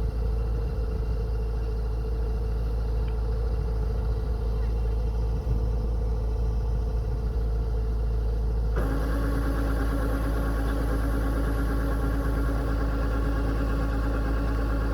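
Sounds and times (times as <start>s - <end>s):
combine harvester engine rumbling: 0.0s - 14.9s.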